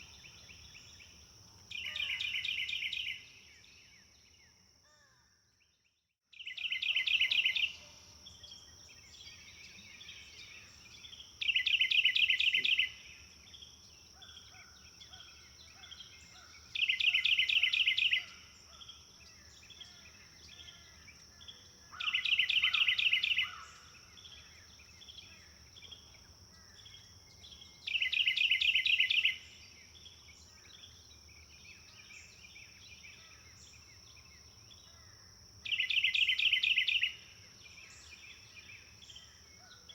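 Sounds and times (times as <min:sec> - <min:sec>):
songbird trill: 0:00.0 - 0:39.9.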